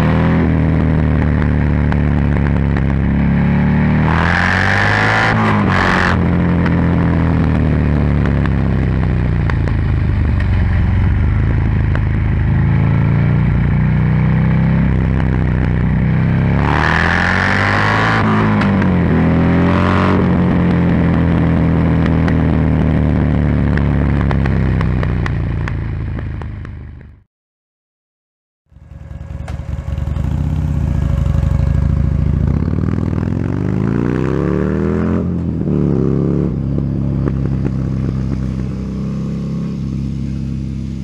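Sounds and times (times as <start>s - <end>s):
motorcycle engine running: 0.0s - 27.2s, 28.7s - 41.0s.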